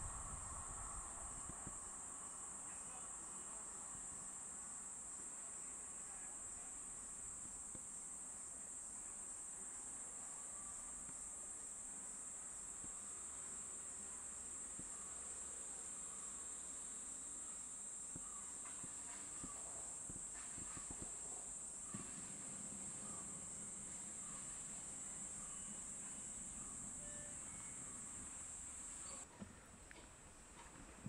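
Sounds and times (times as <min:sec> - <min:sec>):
insects chirring: 0:00.0 - 0:29.3.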